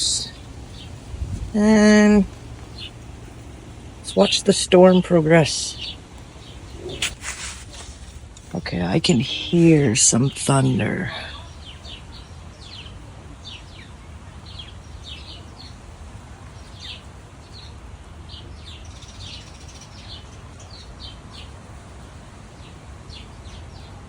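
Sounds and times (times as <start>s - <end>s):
low rumble of wind: 0.0s - 24.0s
small birds chirping: 0.0s - 24.0s.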